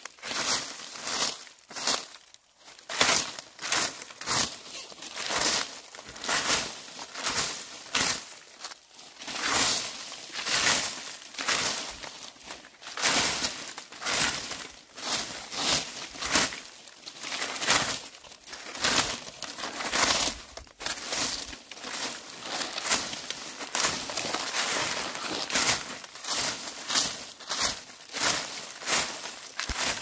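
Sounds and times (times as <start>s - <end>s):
broom sweeping dry leaves: 0.0s - 30.0s.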